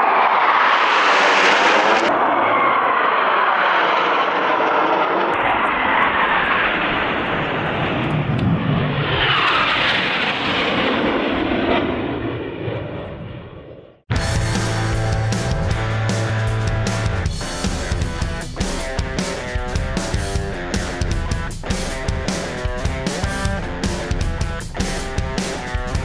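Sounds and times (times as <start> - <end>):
jet aircraft roaring overhead: 0.0 - 26.0.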